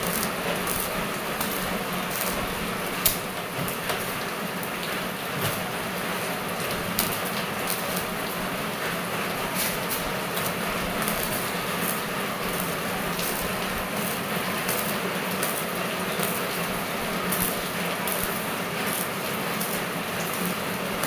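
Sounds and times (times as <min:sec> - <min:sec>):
welding arc sizzling and popping: 0:00.0 - 0:21.0.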